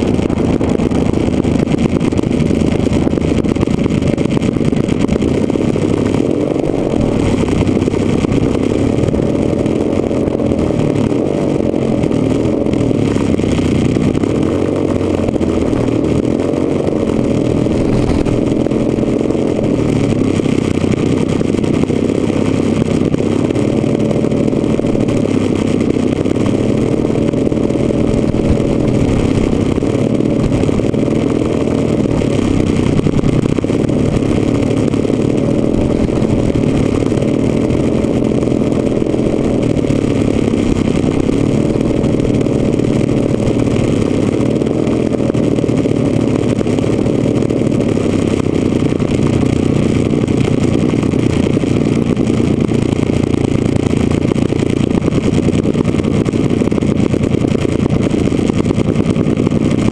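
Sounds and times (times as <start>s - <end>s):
model airplane engines running: 0.0s - 59.9s.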